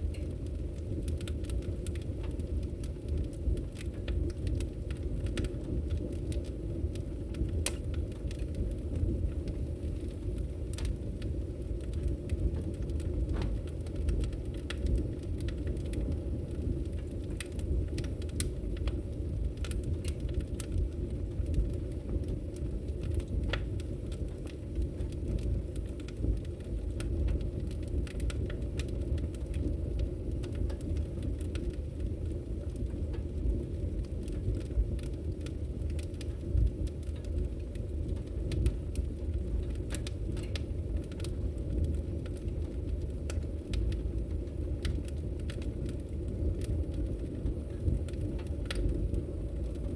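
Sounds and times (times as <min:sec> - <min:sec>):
fire popping and snapping: 0:00.0 - 0:49.9
wood fire crackling: 0:00.0 - 0:49.9.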